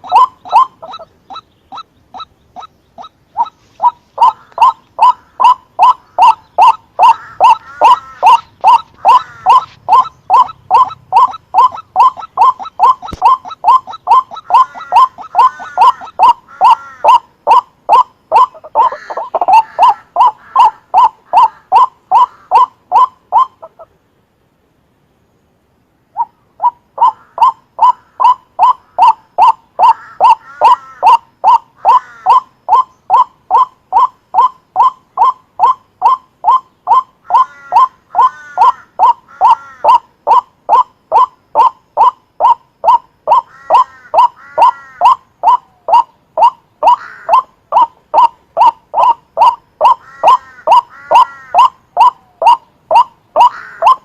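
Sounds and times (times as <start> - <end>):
curving bird calls: 0.0 - 24.2, 25.4 - 54.0.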